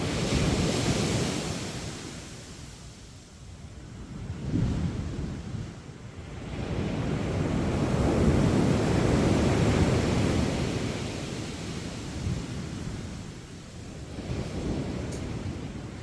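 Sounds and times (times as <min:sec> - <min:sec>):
waves breaking on beach: 0:00.0 - 0:03.3, 0:06.3 - 0:16.0.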